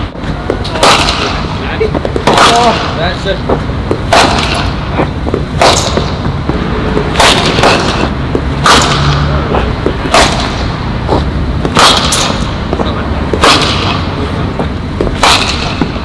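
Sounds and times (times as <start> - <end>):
steady low rumble: 0.0 - 16.0
cricket bat striking ball: 0.5 - 3.0, 3.9 - 6.3, 6.9 - 16.0.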